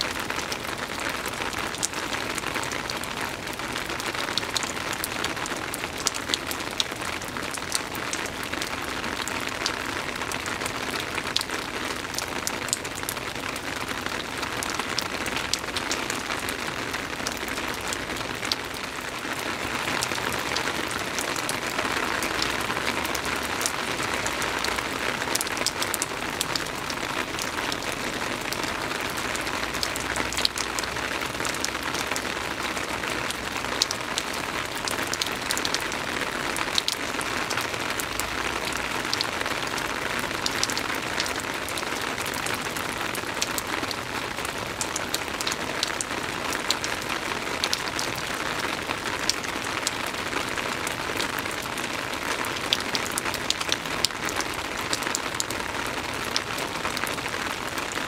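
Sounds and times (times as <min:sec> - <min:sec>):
soft rain hiss: 0:00.0 - 0:58.0
raindrops ticking: 0:00.1 - 0:58.0.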